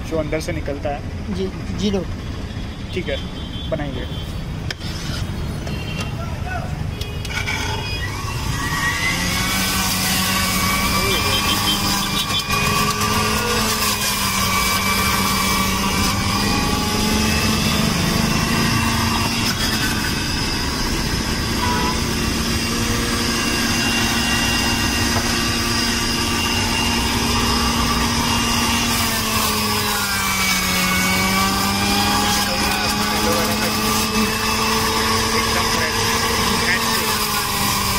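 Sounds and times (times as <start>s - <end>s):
juicer motor hum: 7.2s - 37.9s.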